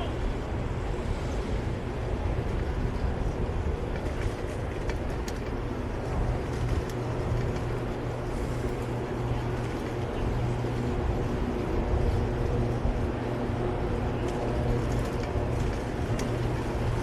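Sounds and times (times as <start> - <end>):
city street traffic: 0.0 - 17.0
wind rumble on microphone: 0.0 - 17.0.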